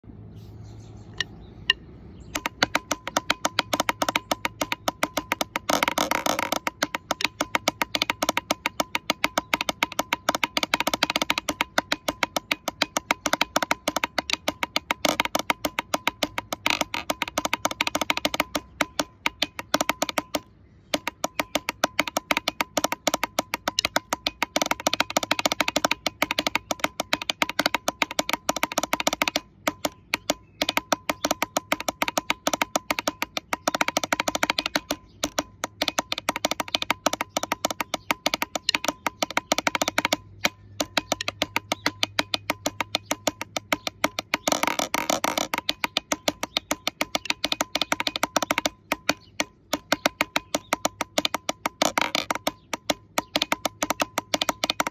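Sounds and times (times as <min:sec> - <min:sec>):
drumsticks on plastic jug lid: 0:01.1 - 0:54.9.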